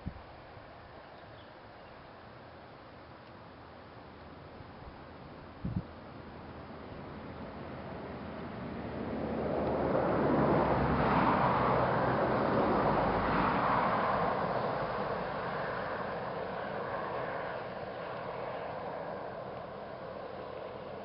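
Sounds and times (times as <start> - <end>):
rushing outdoor background noise: 0.0 - 21.0.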